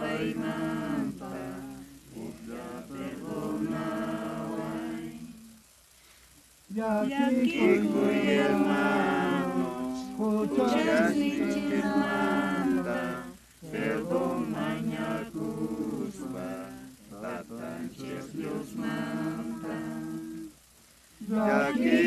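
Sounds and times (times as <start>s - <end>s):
group singing a hymn unaccompanied: 0.0s - 5.6s, 6.7s - 20.6s, 21.2s - 22.0s.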